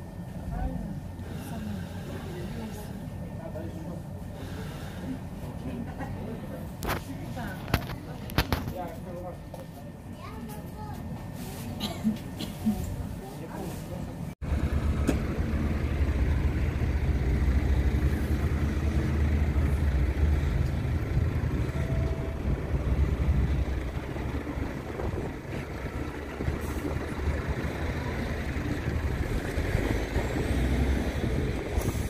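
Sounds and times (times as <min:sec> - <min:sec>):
low engine rumble: 0:00.0 - 0:32.0.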